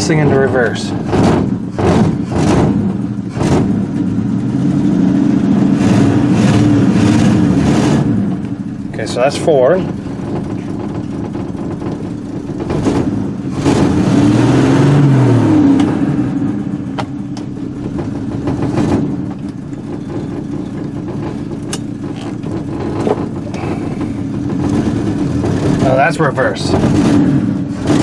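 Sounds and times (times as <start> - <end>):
pickup engine idling and revving: 0.0 - 28.0.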